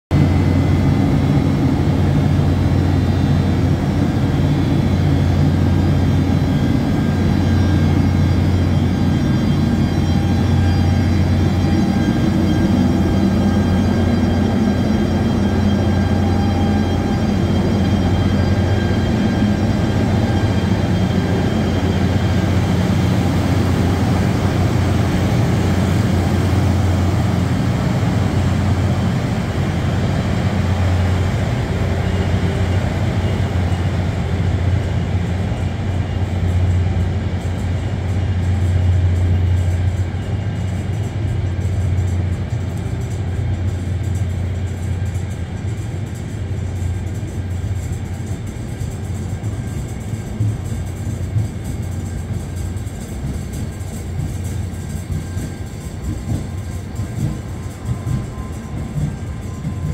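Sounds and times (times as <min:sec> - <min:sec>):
electric locomotive humming: 0:00.1 - 0:59.9
steady whining tones: 0:00.1 - 0:59.9.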